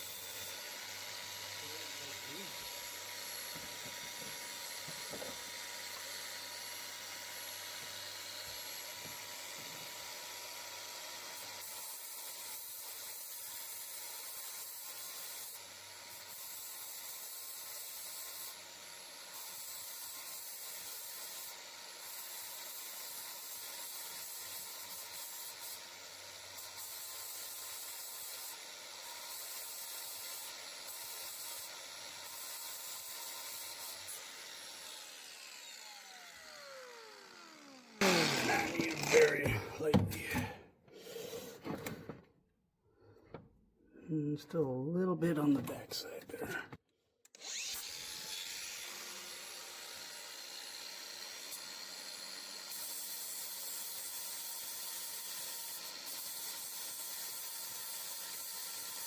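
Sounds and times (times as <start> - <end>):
grinder on metal hissing: 0.0 - 41.8, 47.4 - 59.0.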